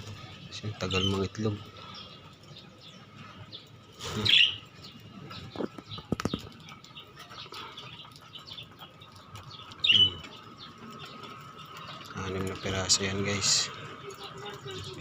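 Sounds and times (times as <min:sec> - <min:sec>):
lovebirds chirping: 0:00.0 - 0:15.0
wings fluttering: 0:00.0 - 0:15.0.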